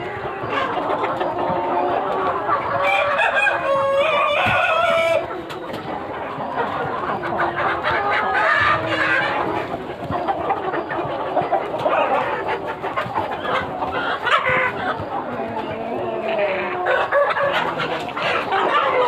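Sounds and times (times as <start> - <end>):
chickens clucking and calling: 0.0 - 19.0.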